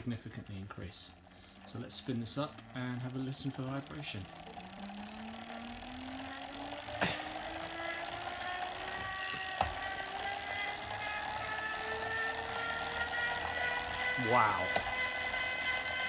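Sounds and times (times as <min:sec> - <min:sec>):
trainer flywheel whine: 0:00.0 - 0:16.0.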